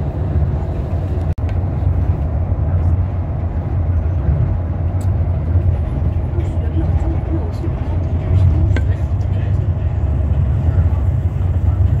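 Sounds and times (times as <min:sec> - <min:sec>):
monorail car rumbling: 0:00.0 - 0:12.0.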